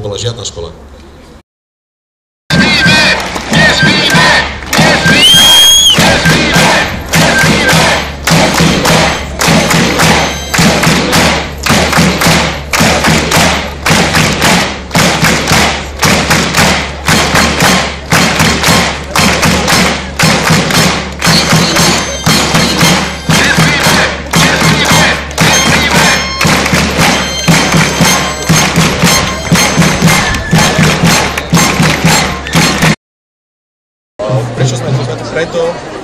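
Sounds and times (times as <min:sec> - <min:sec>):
crowd clapping in unison: 0:02.8 - 0:05.3, 0:05.9 - 0:33.0.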